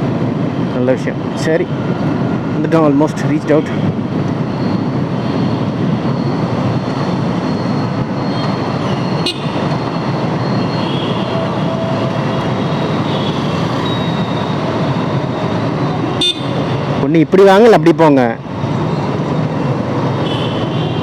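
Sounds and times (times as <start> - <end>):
wind rushing over microphone: 0.0 - 17.4
road noise: 0.0 - 21.0.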